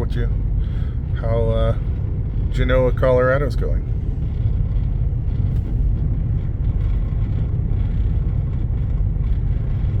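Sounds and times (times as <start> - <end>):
vehicle idling rumble: 0.0 - 10.0.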